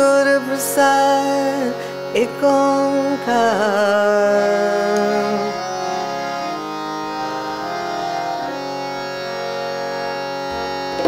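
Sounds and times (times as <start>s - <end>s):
sustained instrumental notes: 0.0s - 11.0s.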